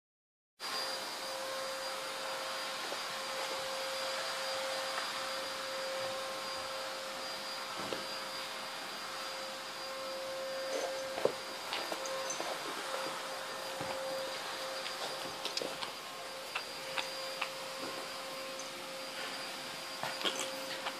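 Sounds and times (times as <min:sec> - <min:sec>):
motor hissing and whining: 0:00.6 - 0:20.9.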